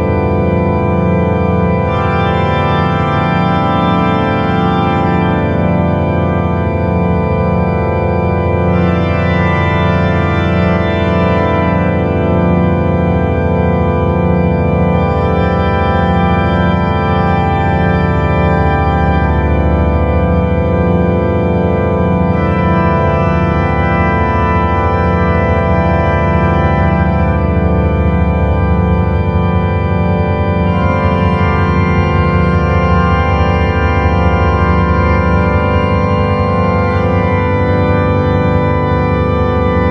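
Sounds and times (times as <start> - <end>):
sustained organ-like drone chord: 0.0 - 39.9.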